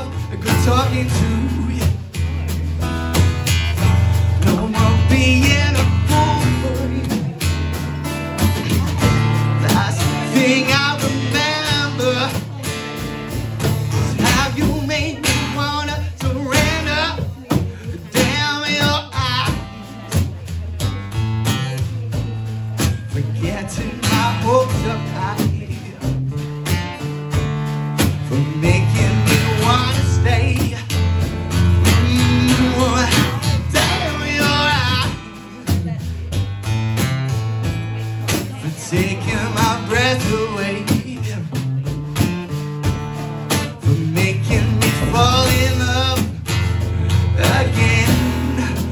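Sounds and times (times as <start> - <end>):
man singing: 0.0 - 36.4, 38.1 - 48.9
acoustic guitar strumming: 0.0 - 48.9.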